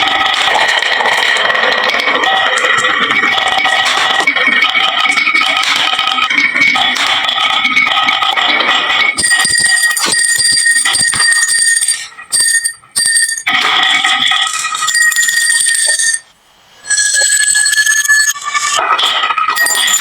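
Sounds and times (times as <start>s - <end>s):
marbles clattering down wooden run: 0.0s - 16.2s.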